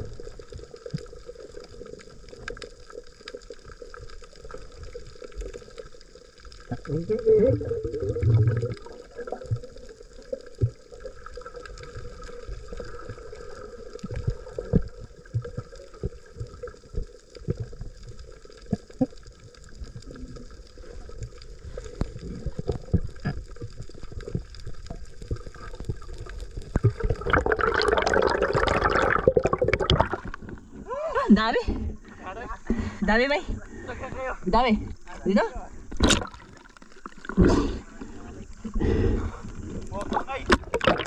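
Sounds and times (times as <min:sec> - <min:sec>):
water gurgling and sloshing: 0:00.0 - 0:41.0.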